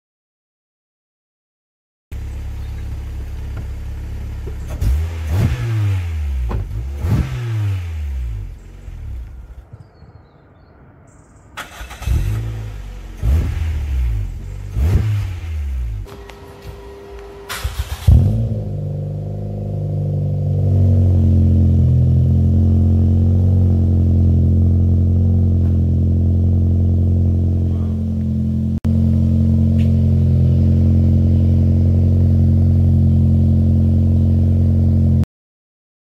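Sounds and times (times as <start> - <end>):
car exhaust droning: 2.2 - 9.6, 11.6 - 35.2.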